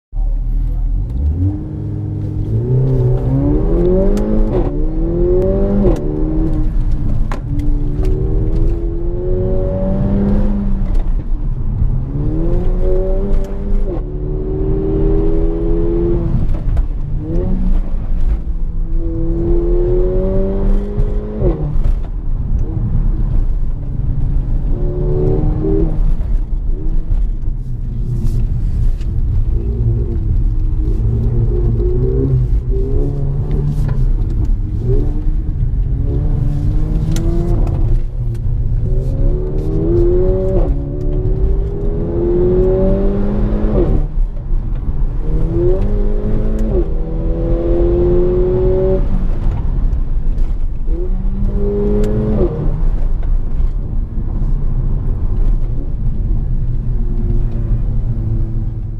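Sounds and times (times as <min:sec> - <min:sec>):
car engine accelerating through gears: 0:00.2 - 0:58.9.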